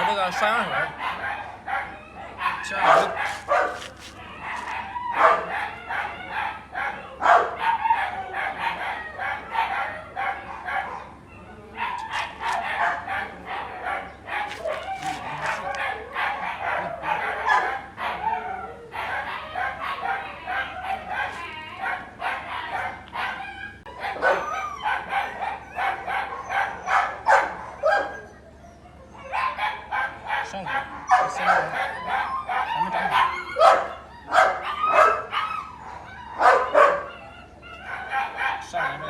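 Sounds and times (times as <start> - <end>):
dog yelping and barking: 0.0 - 39.0.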